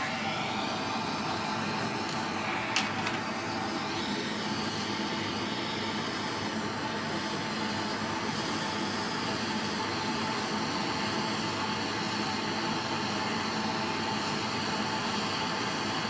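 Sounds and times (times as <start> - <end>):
torch flame hissing: 0.0 - 16.0.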